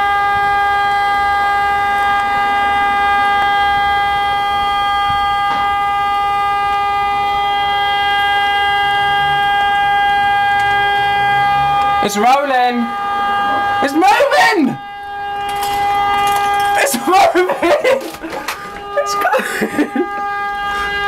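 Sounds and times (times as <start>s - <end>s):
vehicle horn sounding: 0.0s - 21.0s.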